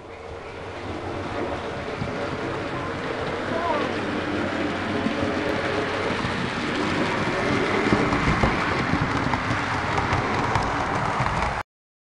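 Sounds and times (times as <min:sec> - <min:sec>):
model train running on track: 0:00.0 - 0:11.6.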